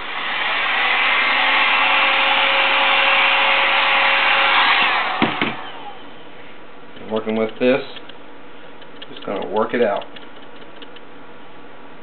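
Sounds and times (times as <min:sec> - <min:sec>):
heat gun fan rushing: 0:00.0 - 0:11.5
faint steady hum: 0:00.0 - 0:12.0.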